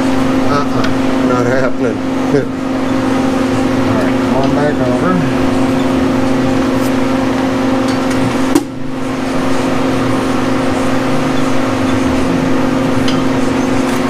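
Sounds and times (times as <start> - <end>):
heater humming: 0.0 - 14.0.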